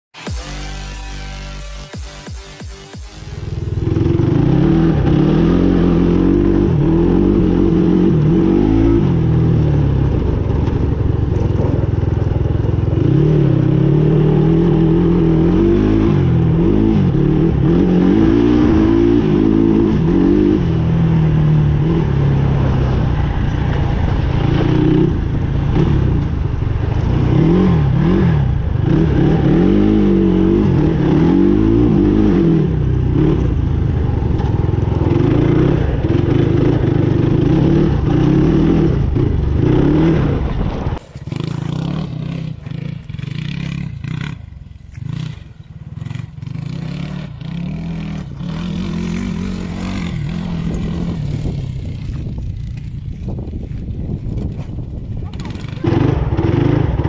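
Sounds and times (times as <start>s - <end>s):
quad engine revving: 2.6s - 54.5s, 55.2s - 57.0s.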